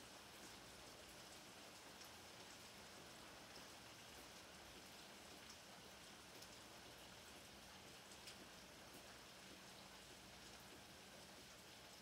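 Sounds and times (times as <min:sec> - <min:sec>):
faint steady rain: 0:00.0 - 0:12.0.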